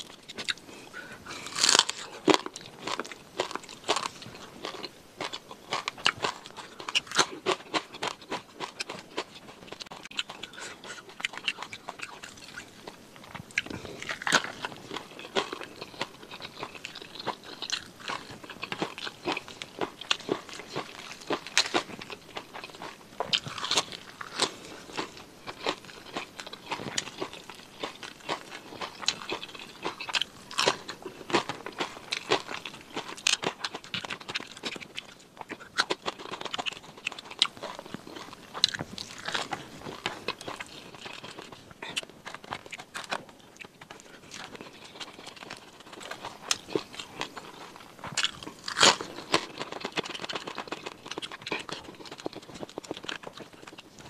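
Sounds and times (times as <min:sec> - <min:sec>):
crunching bites and chewing: 0:00.0 - 0:54.0.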